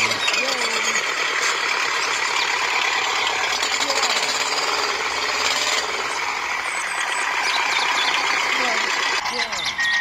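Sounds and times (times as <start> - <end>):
toy tractor engine chugging: 0.0 - 10.0.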